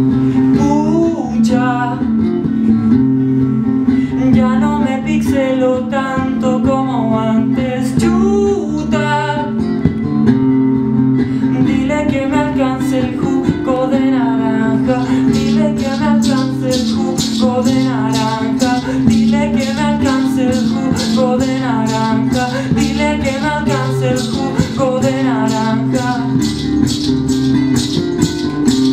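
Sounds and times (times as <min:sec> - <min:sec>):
man singing: 0:00.0 - 0:02.2, 0:04.0 - 0:09.6, 0:11.4 - 0:28.9
acoustic guitar strumming: 0:00.0 - 0:28.9.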